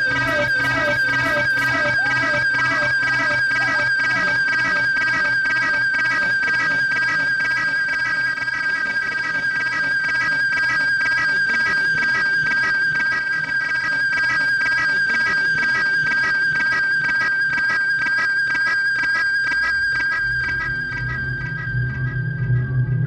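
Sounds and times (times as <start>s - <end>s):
high-pitched steady drone tone: 0.0s - 23.0s.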